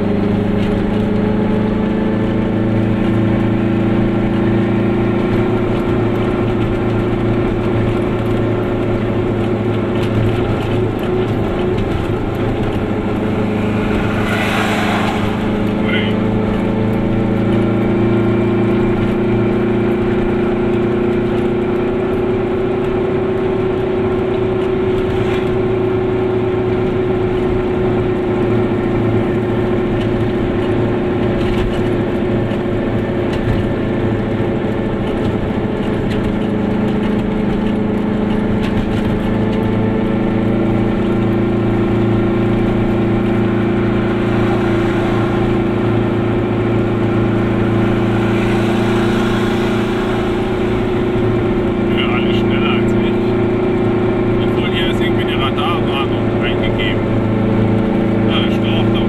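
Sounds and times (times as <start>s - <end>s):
two-stroke car engine running: 0.0s - 14.3s, 15.4s - 59.0s.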